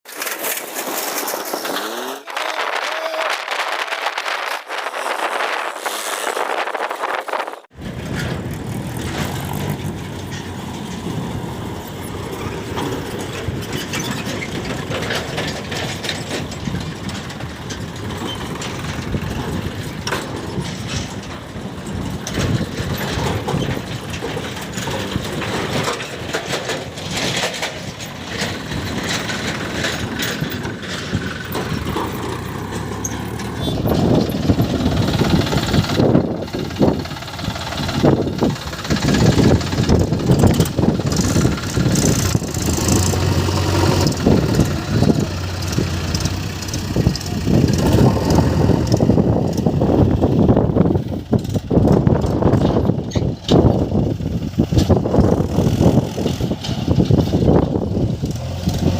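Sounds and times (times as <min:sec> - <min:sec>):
diesel machinery running: 0:00.2 - 0:58.9
short knocks and clatter: 0:07.7 - 0:58.9.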